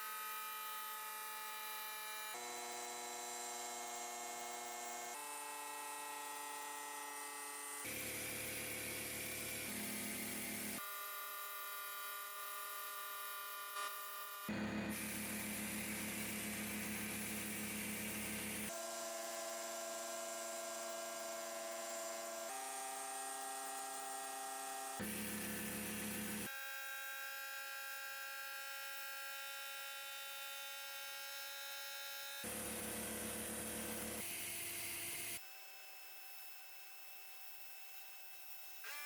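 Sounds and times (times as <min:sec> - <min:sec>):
electric power tool motor humming: 0:00.0 - 0:28.2, 0:28.8 - 0:39.0.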